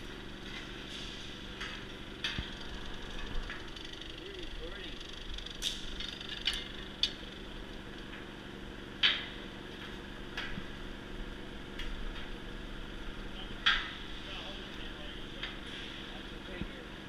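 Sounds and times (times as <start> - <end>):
engine humming: 0.0 - 16.8.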